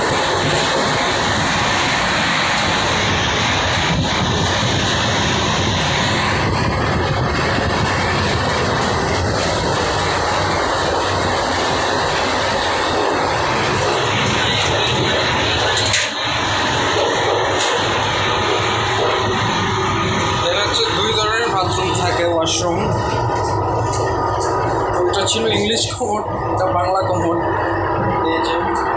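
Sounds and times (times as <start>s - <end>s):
wind rushing: 0.0s - 25.5s
train wheels rumbling on rails: 0.0s - 28.9s.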